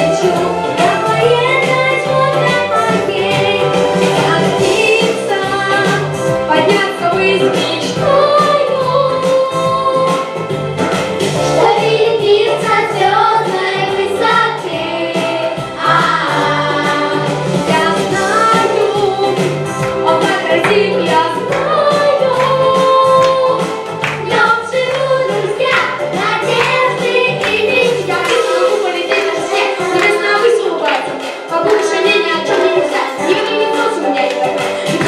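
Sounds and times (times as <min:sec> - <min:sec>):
several voices singing: 0:00.0 - 0:10.4, 0:11.5 - 0:35.0
instrumental backing with bass: 0:00.0 - 0:35.0.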